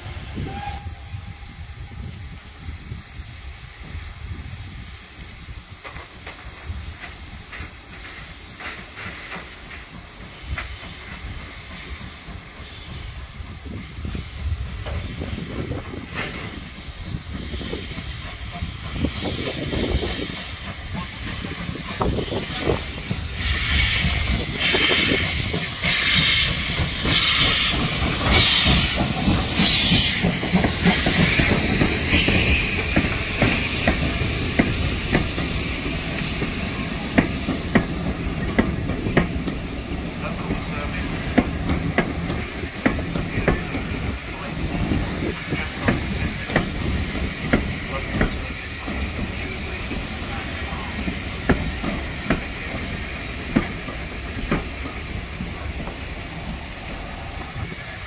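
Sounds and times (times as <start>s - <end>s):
hissing steam chuffs: 0.0s - 58.0s
steam locomotive passing: 0.0s - 58.0s.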